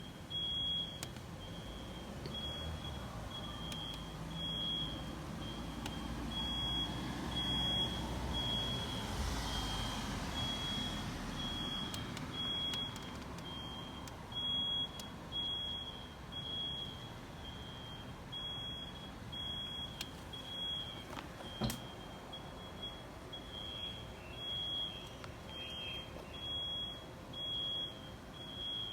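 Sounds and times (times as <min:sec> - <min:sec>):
smoke alarm beeping: 0:00.0 - 0:28.9.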